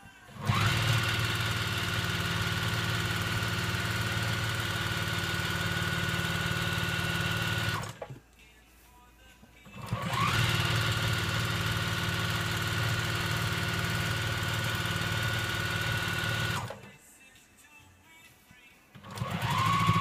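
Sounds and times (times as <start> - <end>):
sewing machine stitching: 0.3 - 8.2, 9.7 - 16.9, 19.0 - 20.0.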